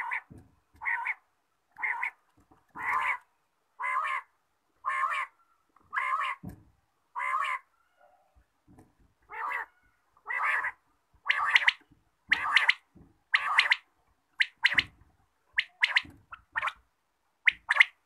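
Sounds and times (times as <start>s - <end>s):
quail calling: 0.0s - 1.2s, 1.8s - 2.2s, 2.8s - 6.5s, 7.1s - 8.2s, 9.3s - 16.8s, 17.4s - 18.0s.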